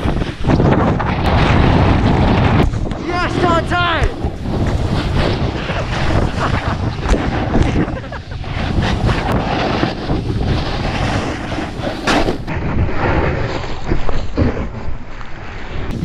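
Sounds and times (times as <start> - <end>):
wind buffeting microphone: 0.0 - 15.1
snowboard scraping through snow: 0.0 - 16.0.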